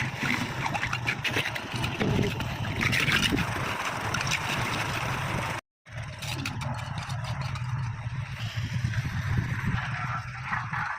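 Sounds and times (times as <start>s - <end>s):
engine humming: 0.0s - 10.9s.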